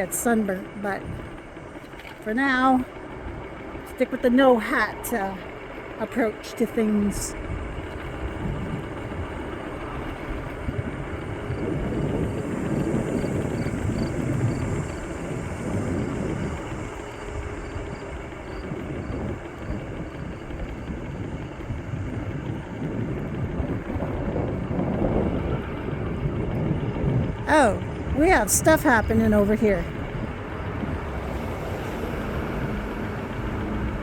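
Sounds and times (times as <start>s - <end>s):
scooter wheels rumbling on pavement: 0.0s - 34.0s
wind buffeting microphone: 0.0s - 34.0s.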